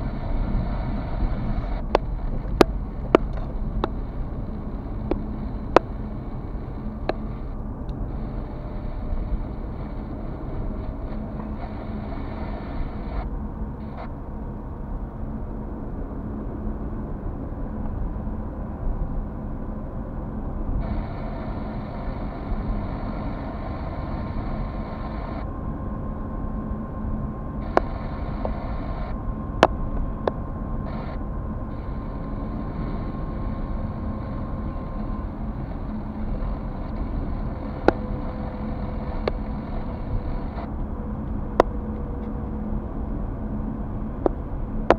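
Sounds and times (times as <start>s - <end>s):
engine and tyre rumble: 0.0s - 44.9s.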